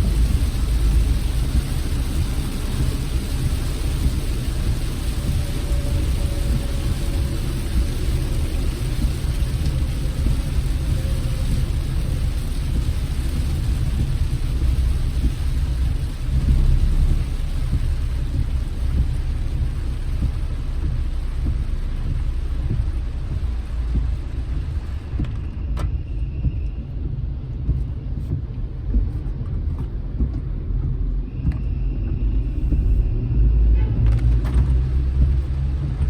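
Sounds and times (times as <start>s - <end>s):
car road and engine rumble: 0.0s - 36.0s
rain and wet tyres hissing: 0.0s - 36.0s.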